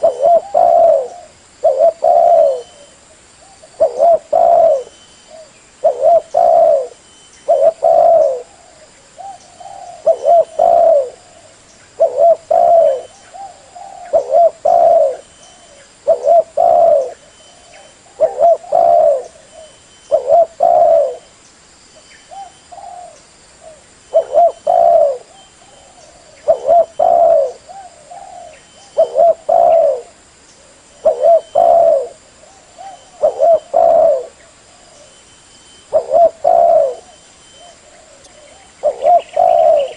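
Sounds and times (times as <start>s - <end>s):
dove cooing: 0.0s - 21.3s, 22.3s - 35.2s, 35.9s - 39.9s.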